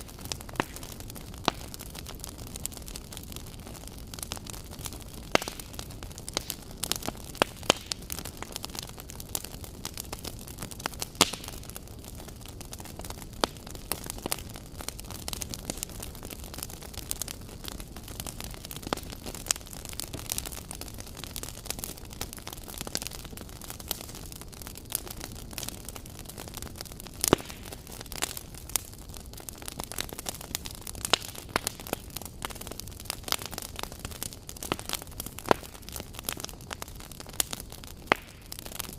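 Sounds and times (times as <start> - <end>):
fireplace fire crackling and popping: 0.0 - 38.9.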